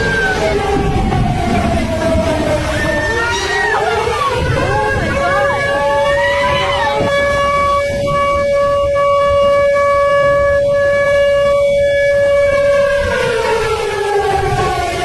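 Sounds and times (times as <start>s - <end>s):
low rushing noise: 0.0s - 15.0s
warning siren winding down: 0.0s - 15.0s.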